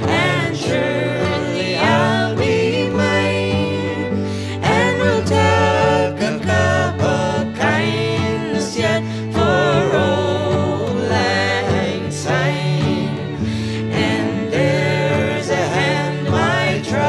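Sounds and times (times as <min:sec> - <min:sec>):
instrumental accompaniment: 0:00.0 - 0:17.0.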